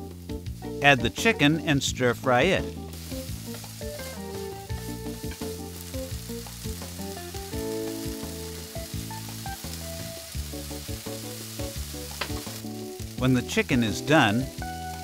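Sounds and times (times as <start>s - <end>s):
chicken and onion sizzling in pan: 0.0s - 15.0s
soft background music: 0.0s - 15.0s.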